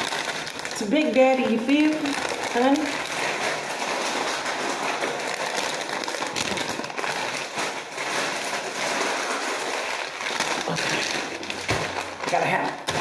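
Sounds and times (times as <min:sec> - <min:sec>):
chip bag crinkling: 0:00.0 - 0:13.0.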